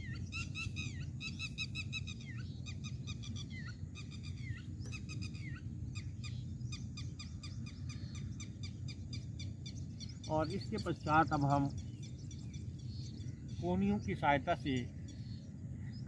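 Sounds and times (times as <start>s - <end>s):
birds chirping and calling: 0.0s - 16.0s
low background rumble: 0.0s - 16.0s.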